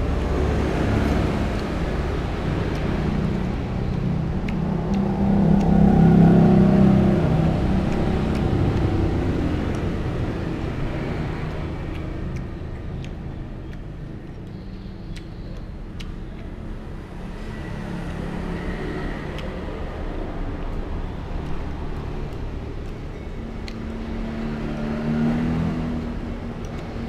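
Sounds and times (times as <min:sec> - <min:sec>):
traffic engine rumble: 0:00.0 - 0:27.0.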